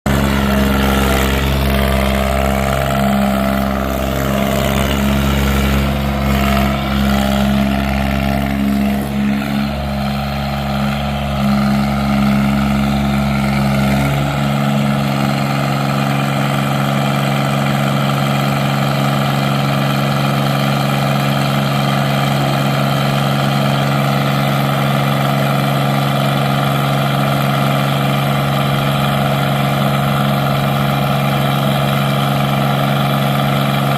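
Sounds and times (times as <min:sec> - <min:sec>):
skid steer engine running: 0:00.0 - 0:33.9.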